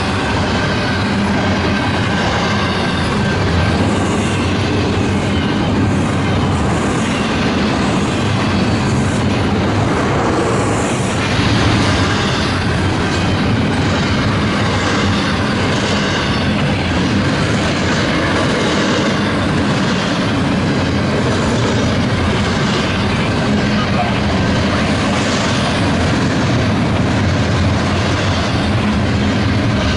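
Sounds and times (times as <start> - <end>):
train wheels on rail: 0.0 - 29.9.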